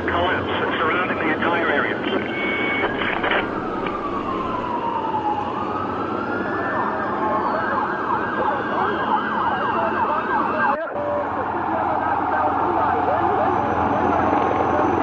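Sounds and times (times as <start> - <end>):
emergency vehicle siren: 0.0 - 15.0
street noise: 0.0 - 15.0
higher siren tone gliding down: 2.6 - 15.0.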